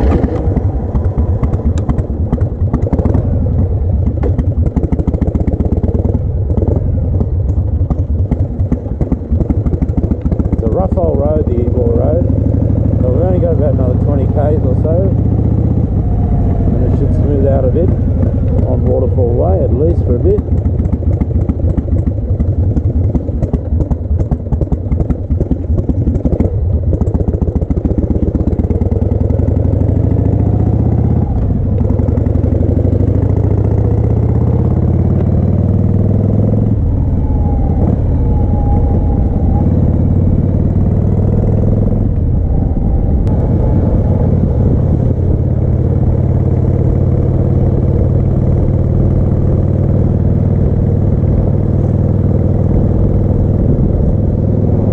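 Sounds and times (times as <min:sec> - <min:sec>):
rattling clatter from rough road: 0:00.0 - 0:36.7, 0:43.2 - 0:54.9
motorcycle engine accelerating: 0:00.0 - 0:54.9.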